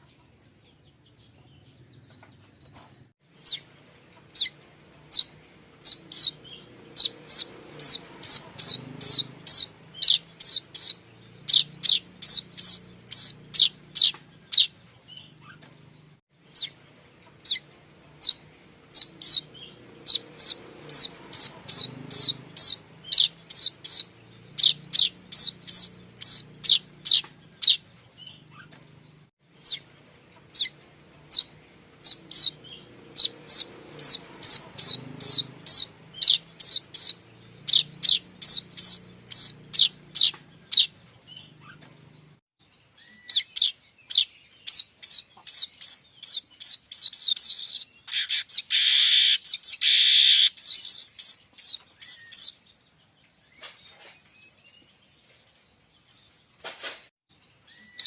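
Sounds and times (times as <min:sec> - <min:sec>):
buzzy bird chatter: 0:00.0 - 0:52.9
bird chirping: 0:00.0 - 0:58.0.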